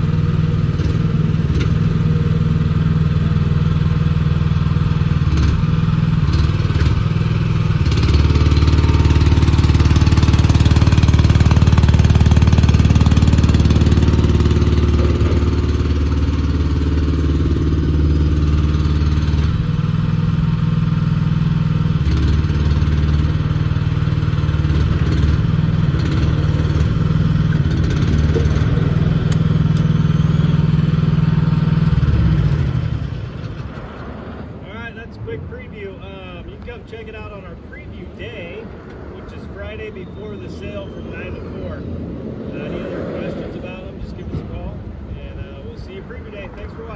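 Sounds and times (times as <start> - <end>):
excavator engine running: 0.0 - 45.6.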